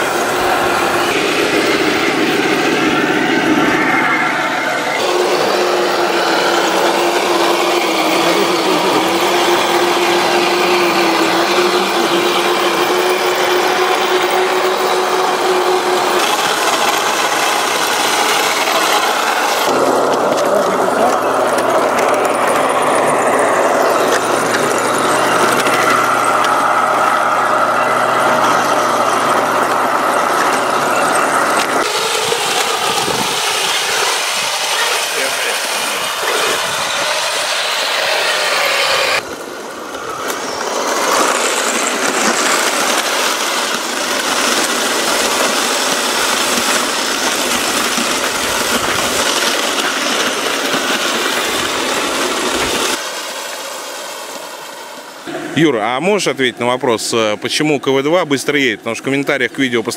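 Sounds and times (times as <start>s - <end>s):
gearbox and track rattle: 0.0s - 53.0s
small electric motors whining: 0.0s - 53.1s.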